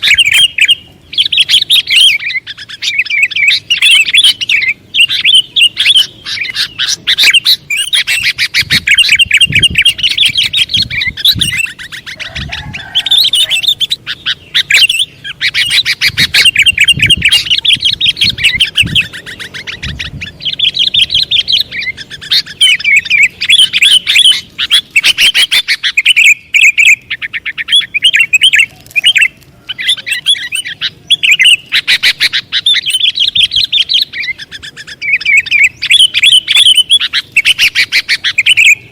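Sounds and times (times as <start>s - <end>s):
bulbul calling and chirping: 0.0s - 38.9s.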